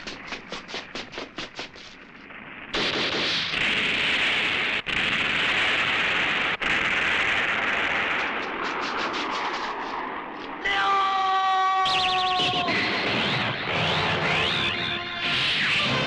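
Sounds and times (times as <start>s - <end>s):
rapid explosion shots: 0.0s - 10.6s, 12.0s - 16.0s
loud rushing blast: 0.0s - 11.2s, 11.9s - 16.0s.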